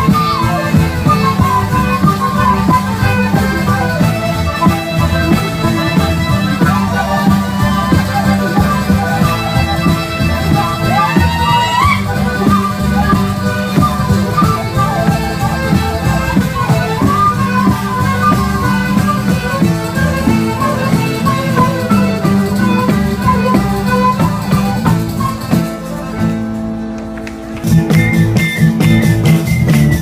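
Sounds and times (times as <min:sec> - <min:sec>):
drums: 0:00.0 - 0:30.0
folk band playing dance music: 0:00.0 - 0:30.0.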